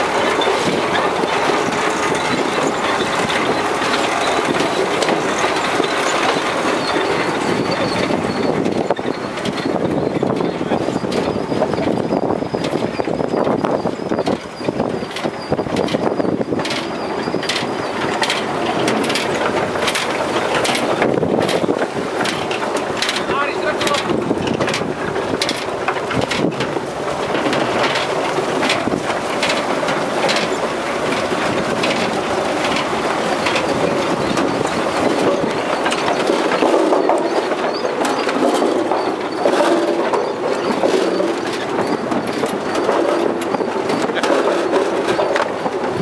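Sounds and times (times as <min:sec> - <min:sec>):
harvesting machinery clattering: 0:00.0 - 0:46.0.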